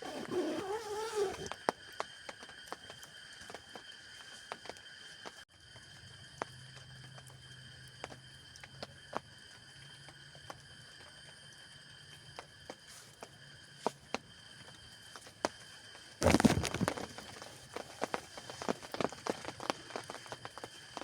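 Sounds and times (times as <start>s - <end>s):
raindrops dripping on a tent: 0.0s - 21.0s.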